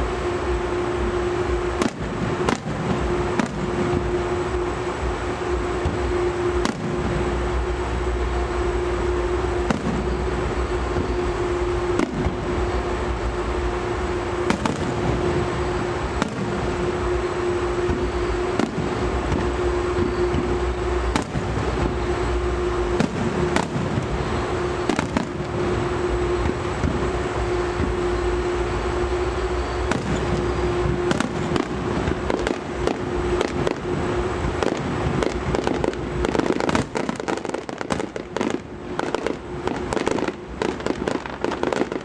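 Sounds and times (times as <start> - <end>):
fireworks bursting: 0.0 - 42.0
steady hum and low rumble: 0.0 - 42.0.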